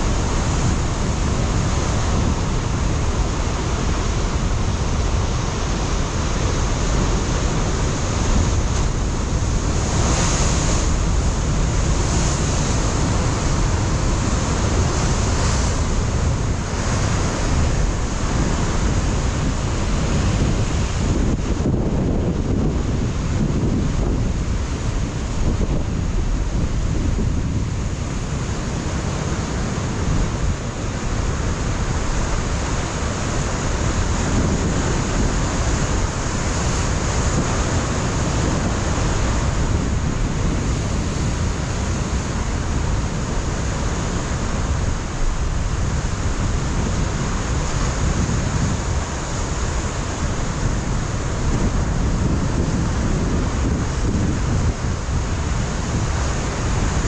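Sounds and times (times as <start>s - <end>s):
ocean surf breaking on rocks: 0.0s - 57.0s
wind buffeting microphone: 0.0s - 57.0s.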